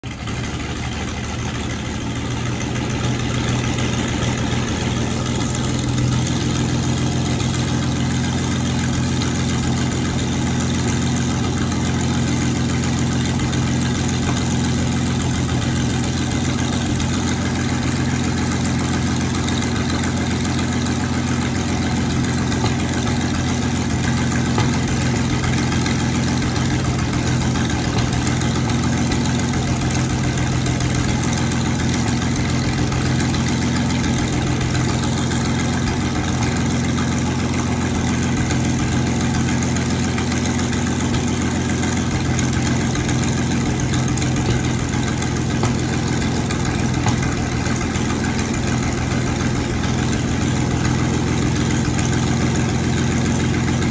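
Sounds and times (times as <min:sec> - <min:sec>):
tank engine idling: 0:00.0 - 0:53.9.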